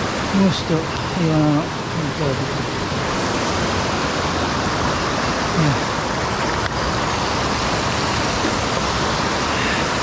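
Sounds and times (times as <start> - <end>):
stream water running over rocks: 0.0 - 10.0.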